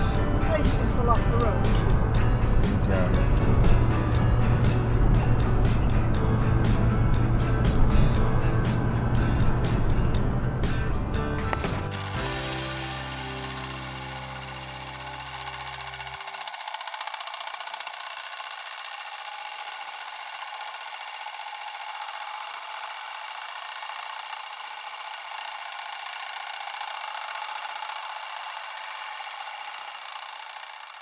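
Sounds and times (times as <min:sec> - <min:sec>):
film projector whirring: 0:00.0 - 0:31.0.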